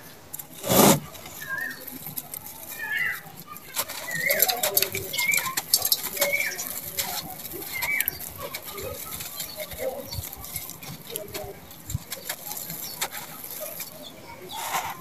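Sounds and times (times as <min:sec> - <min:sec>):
dry cement bar crumbling: 0:00.3 - 0:14.0
sand and grit pouring: 0:00.4 - 0:15.0
bird calling: 0:00.8 - 0:02.1, 0:02.7 - 0:14.1.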